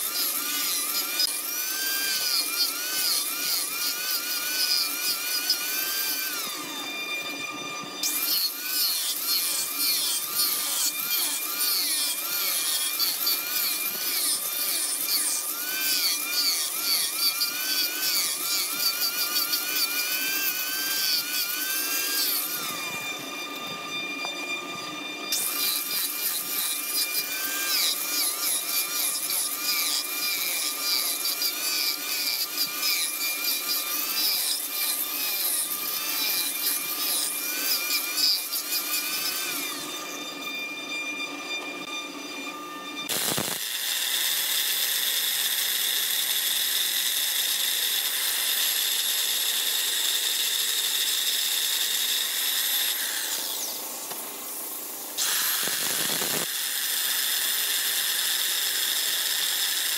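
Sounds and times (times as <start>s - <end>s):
angle grinder on wood: 0.0s - 59.9s
high-pitched power tool whine: 0.0s - 59.9s.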